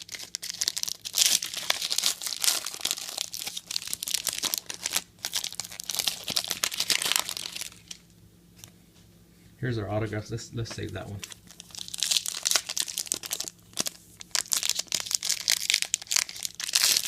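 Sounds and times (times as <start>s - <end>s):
wrappers crinkling and tearing: 0.0s - 8.0s, 11.1s - 17.0s.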